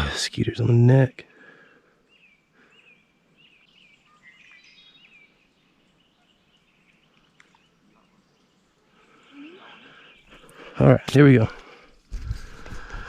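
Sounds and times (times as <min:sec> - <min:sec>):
faint bird chirping: 0:00.0 - 0:12.0
faint outdoor hush: 0:00.0 - 0:13.0.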